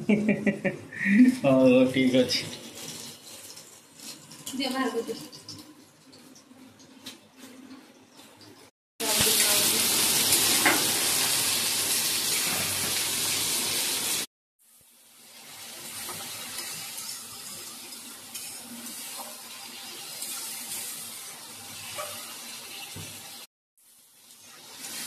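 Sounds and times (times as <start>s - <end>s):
onions sizzling in oil: 2.0s - 6.3s, 9.0s - 25.0s.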